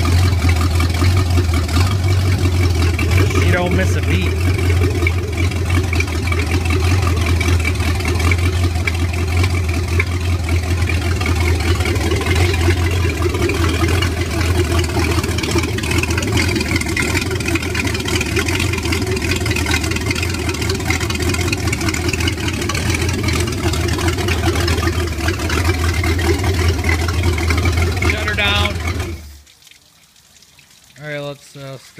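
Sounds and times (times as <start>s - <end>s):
boat engine idling: 0.0s - 29.4s.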